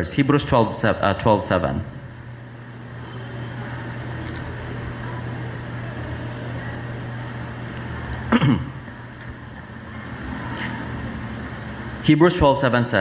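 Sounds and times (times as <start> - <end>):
low hum and rumbling: 0.0 - 13.0.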